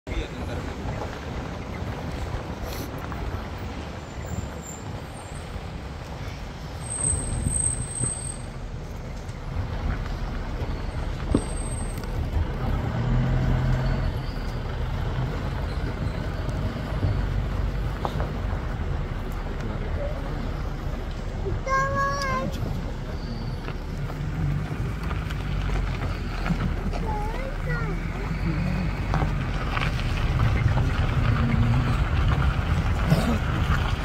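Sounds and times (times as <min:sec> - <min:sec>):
engine rumbling: 0:00.1 - 0:34.0.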